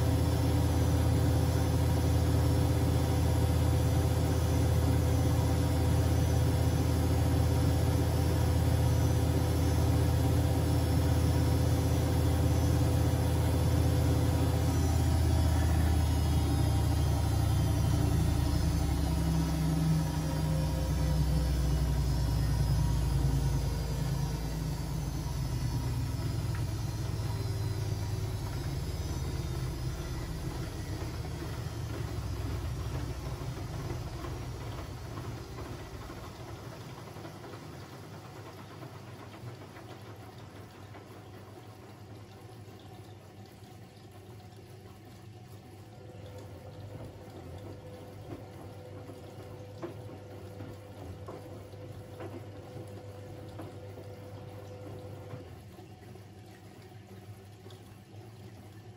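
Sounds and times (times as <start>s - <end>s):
washing machine drum spinning down: 0.0s - 58.9s.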